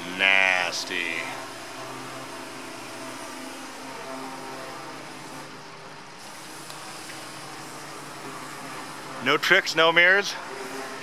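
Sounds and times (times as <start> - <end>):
continuous hiss: 0.0 - 11.0
engine-like hum: 0.0 - 11.0.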